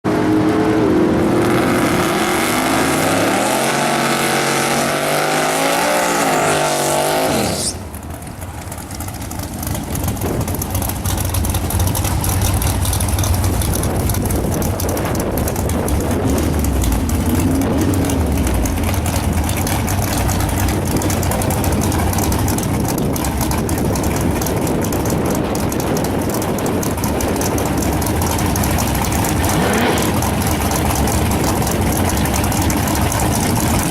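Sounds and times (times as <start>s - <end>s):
car engine revving and idling: 0.0s - 33.9s.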